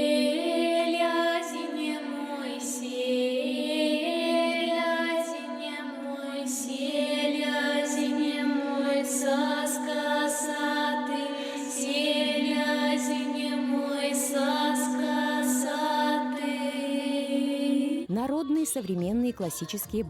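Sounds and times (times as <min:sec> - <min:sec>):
high voices singing: 0:00.0 - 0:20.0.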